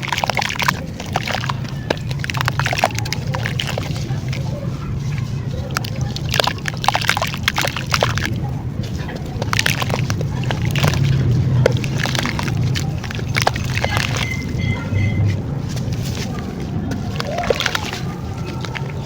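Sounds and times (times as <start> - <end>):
dried clay crumbling and crunching: 0.0 - 19.0.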